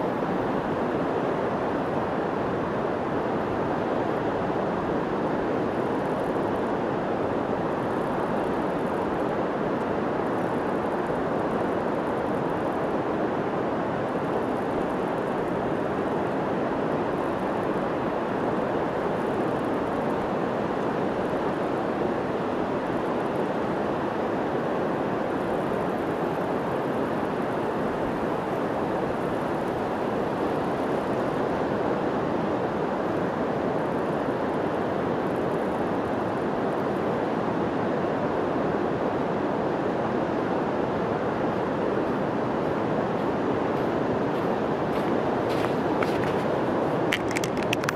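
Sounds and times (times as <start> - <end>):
ocean surf roaring on beach: 0.0 - 47.9.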